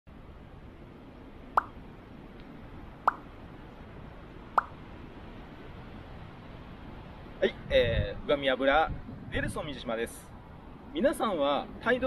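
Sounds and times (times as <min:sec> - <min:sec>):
background hiss: 0:00.1 - 0:12.0.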